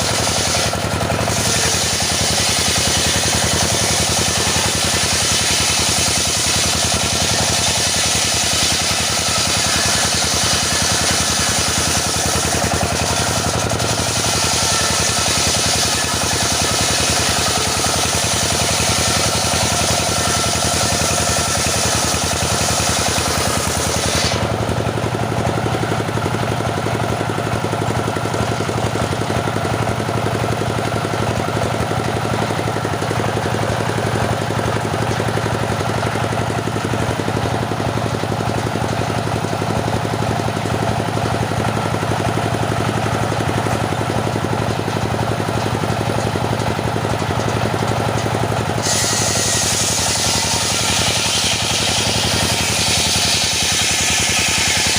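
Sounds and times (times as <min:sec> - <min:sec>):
petrol saw engine drone: 0:00.0 - 0:54.9.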